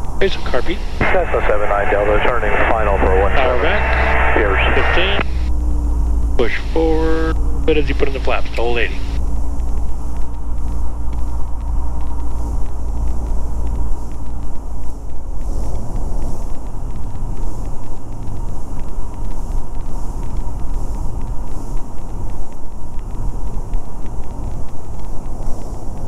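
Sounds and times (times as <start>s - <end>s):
plane engine and propeller droning: 0.0s - 26.0s.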